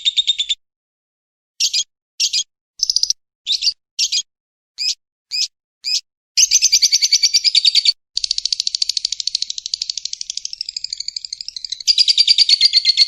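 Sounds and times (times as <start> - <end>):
high-pitched bird chirps: 0.0 - 0.6, 1.6 - 13.0.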